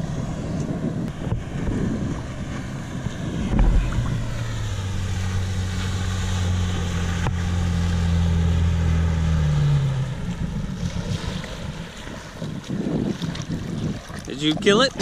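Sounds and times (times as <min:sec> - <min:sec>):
jet ski engine droning: 0:00.0 - 0:15.0.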